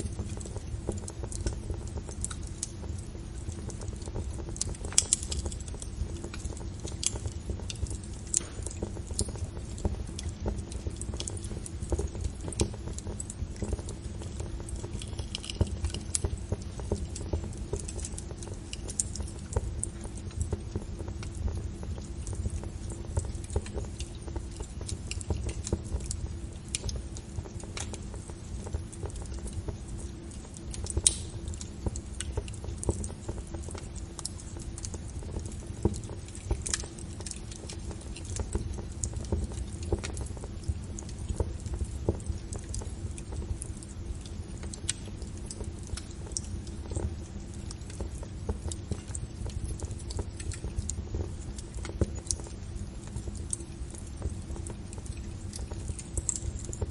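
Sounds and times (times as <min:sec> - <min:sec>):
fire crackling and popping: 0:00.0 - 0:56.9
low rumble of burning: 0:00.0 - 0:56.9.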